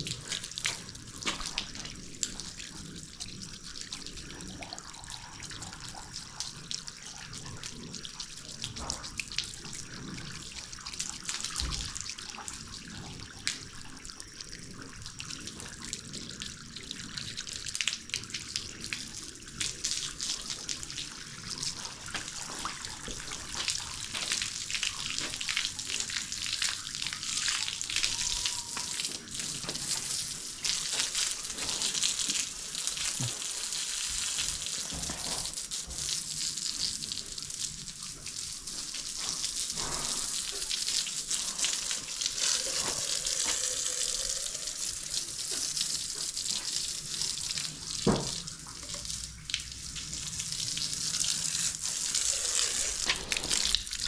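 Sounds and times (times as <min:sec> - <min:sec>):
water spattering from a hose: 0:00.0 - 0:13.7, 0:17.6 - 0:54.0.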